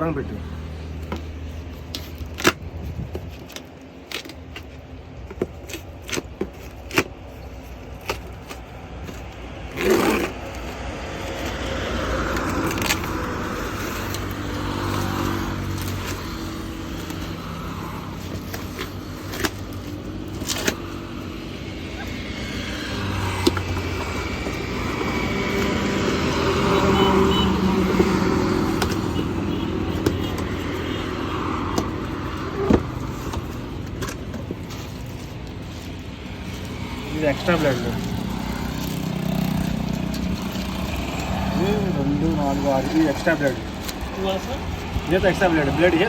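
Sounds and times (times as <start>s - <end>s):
vehicle engine hum: 0.0s - 46.0s.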